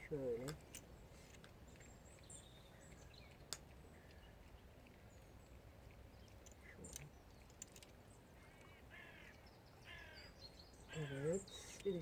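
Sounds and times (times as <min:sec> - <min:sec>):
faint bird chirps: 0:01.0 - 0:12.0.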